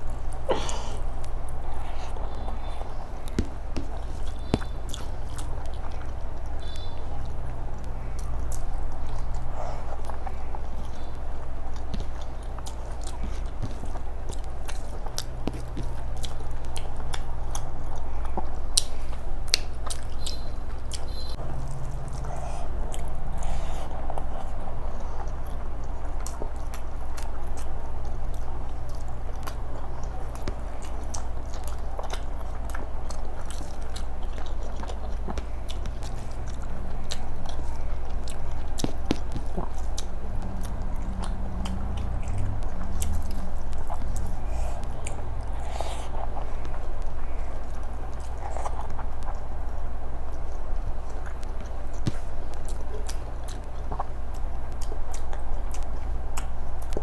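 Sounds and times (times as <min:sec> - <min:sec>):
close chewing with mouth clicks: 0:00.0 - 0:57.0
steady low hum: 0:00.0 - 0:57.0.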